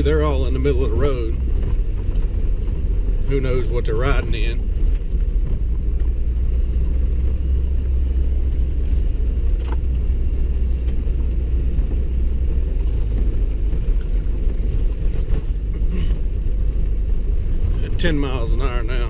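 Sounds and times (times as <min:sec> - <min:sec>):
vehicle rumbling over rutted road: 0:00.0 - 0:19.0.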